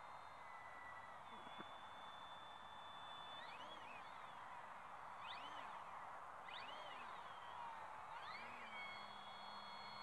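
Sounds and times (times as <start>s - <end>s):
model aircraft motor drone: 0.0s - 10.0s.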